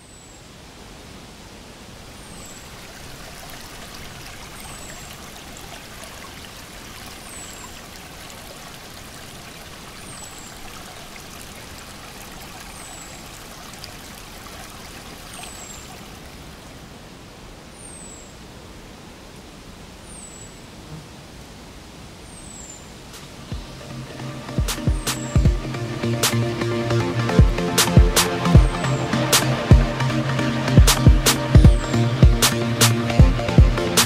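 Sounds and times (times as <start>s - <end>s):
creek running over rocks: 0.5s - 34.0s.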